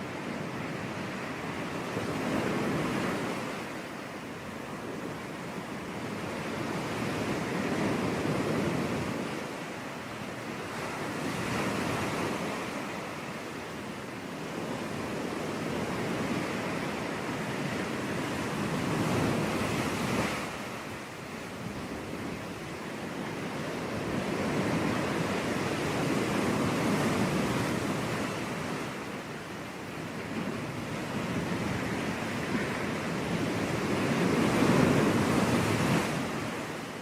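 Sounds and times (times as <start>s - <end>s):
waves breaking on a beach: 0.0s - 37.0s
wind on microphone: 0.0s - 37.0s.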